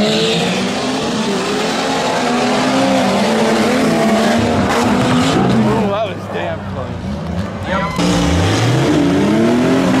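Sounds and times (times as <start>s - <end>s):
truck engine revving: 0.0s - 10.0s
tyre and dirt noise: 0.0s - 10.0s.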